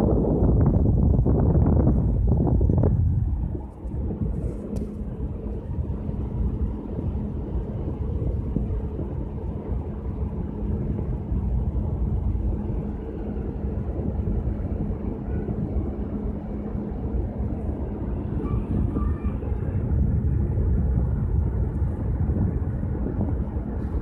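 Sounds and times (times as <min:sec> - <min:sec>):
ship machinery hum: 0:00.0 - 0:24.0
wind buffeting microphone: 0:00.0 - 0:24.0.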